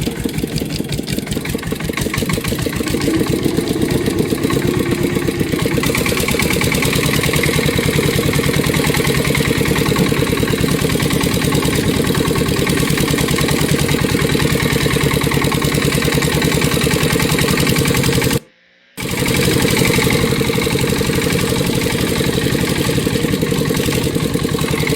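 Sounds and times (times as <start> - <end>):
engine idling: 0.0 - 18.4, 19.0 - 24.9.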